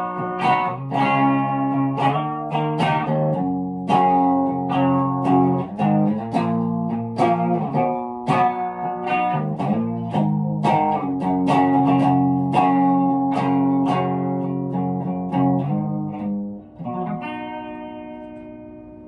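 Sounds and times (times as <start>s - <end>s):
electric guitar playing: 0.0s - 19.0s.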